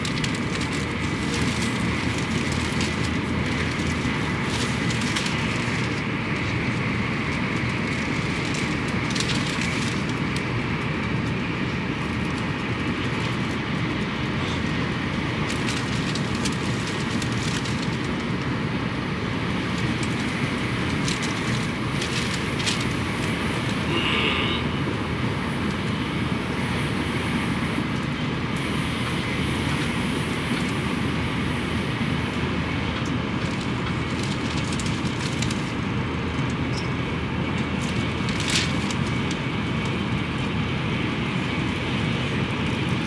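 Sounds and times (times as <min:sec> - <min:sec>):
train rumbling at speed: 0:00.0 - 0:43.0.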